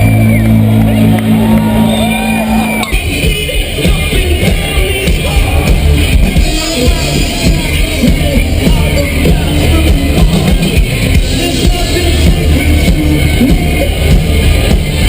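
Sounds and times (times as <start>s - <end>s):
live rock music: 0.0s - 15.0s
person singing: 2.8s - 15.0s.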